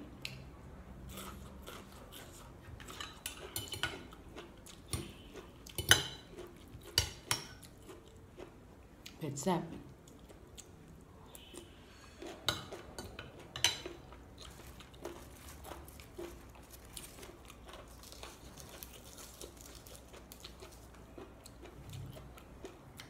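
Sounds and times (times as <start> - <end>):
soft chewing: 0.2 - 23.0.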